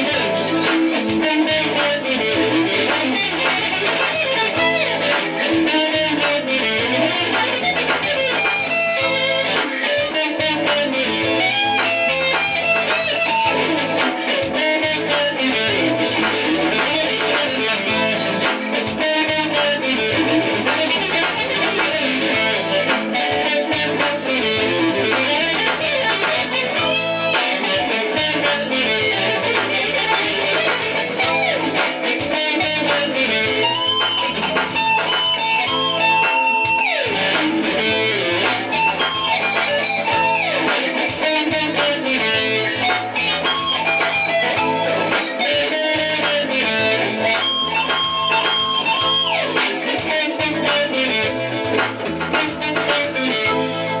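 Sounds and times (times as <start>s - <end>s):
guitar accompaniment: 0.0s - 54.0s
lead guitar with bent notes: 0.0s - 54.0s.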